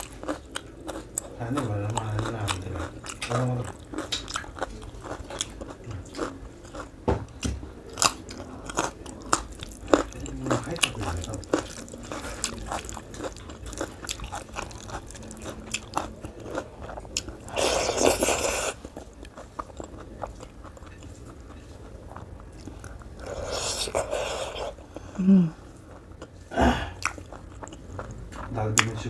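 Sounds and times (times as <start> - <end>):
person chewing with mouth clicks: 0.0 - 29.0.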